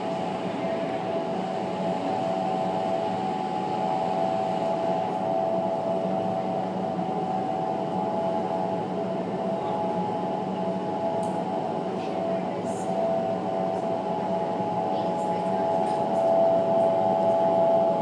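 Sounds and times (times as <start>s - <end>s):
steady tonal hum: 0.0s - 18.0s.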